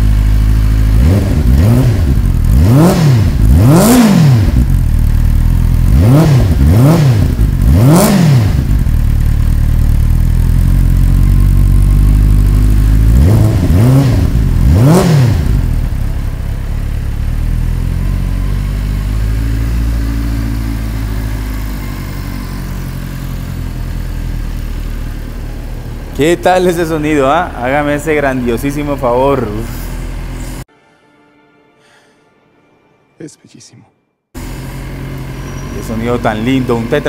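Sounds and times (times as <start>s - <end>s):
motorcycle engine idling: 0.0s - 30.6s, 34.4s - 37.0s
motorcycle engine revving: 0.0s - 30.7s, 34.4s - 37.0s.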